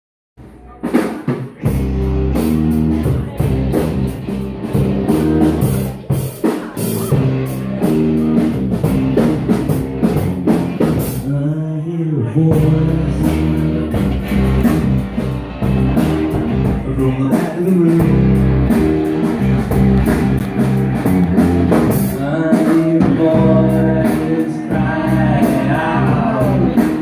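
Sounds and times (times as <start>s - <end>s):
live rock band playing: 0.5s - 11.3s, 12.5s - 27.0s.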